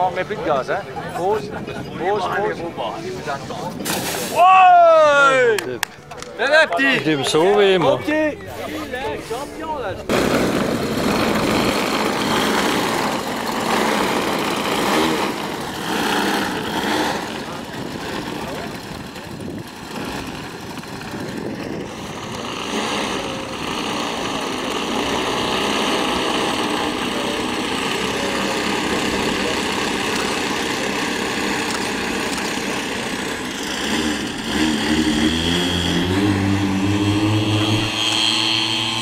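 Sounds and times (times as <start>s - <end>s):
model airplane engines running: 0.0s - 3.8s, 6.1s - 39.0s.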